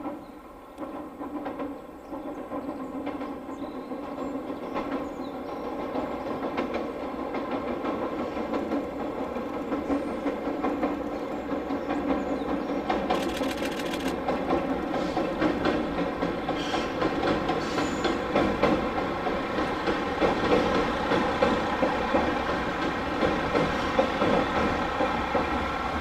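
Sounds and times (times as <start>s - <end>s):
wheels clicking at rail joints: 0.0s - 26.0s.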